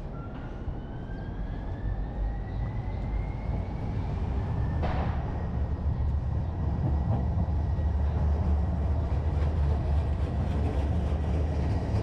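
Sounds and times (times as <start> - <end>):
city noise: 0.0 - 12.0
streetcar rumbling: 0.0 - 12.0.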